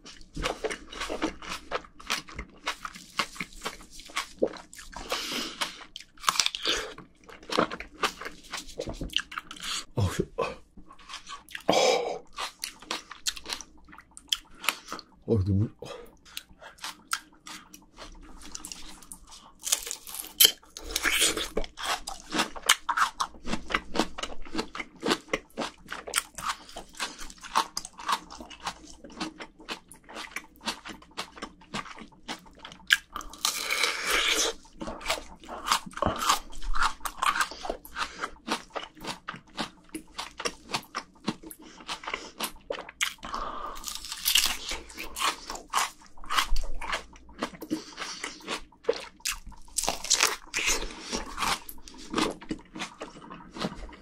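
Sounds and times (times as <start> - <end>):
crunchy frozen fruit chewing: 0.0 - 15.1, 16.3 - 54.0.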